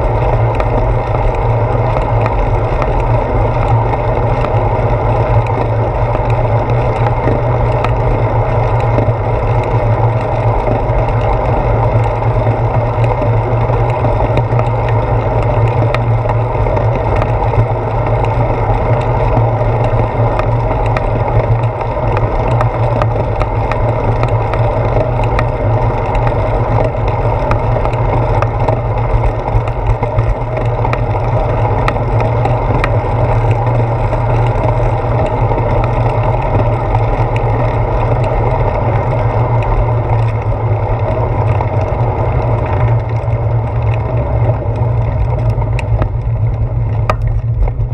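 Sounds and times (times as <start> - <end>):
small clicks and rattles: 0.0 - 47.9
wind and road rumble: 0.0 - 47.9.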